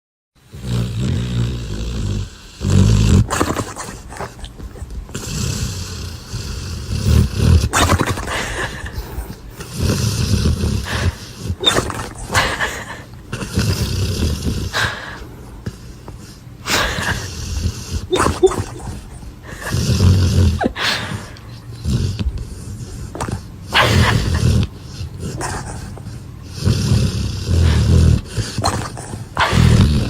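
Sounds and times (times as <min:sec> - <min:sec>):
dog snoring: 0:00.4 - 0:30.0.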